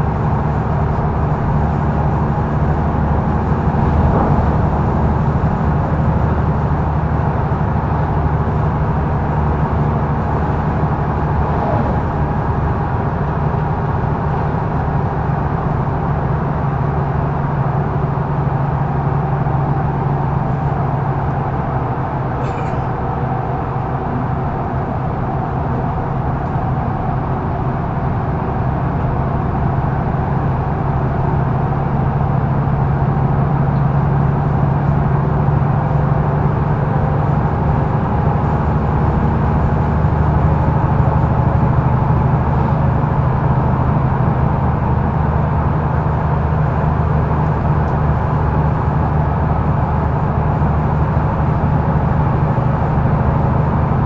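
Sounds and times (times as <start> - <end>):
bus diesel engine running: 0.0 - 54.0
road and cabin noise: 0.0 - 54.0.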